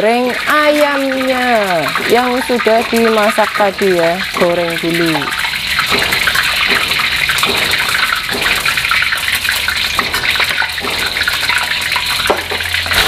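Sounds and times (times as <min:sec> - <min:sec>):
chicken deep-frying in oil: 0:00.0 - 0:13.0
oil crackles and pops: 0:00.0 - 0:13.0.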